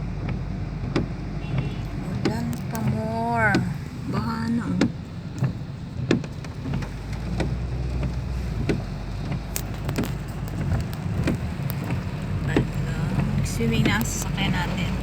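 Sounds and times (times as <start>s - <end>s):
car engine rumble: 0.0s - 15.0s
raindrops ticking on car: 0.0s - 15.0s.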